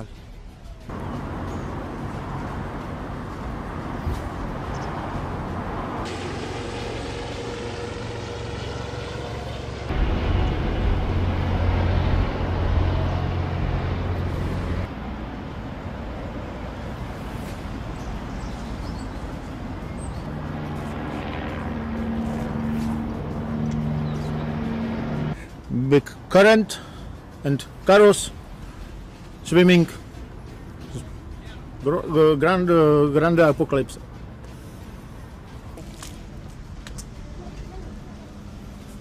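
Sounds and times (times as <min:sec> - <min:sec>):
vehicle engines running: 0:00.0 - 0:39.0.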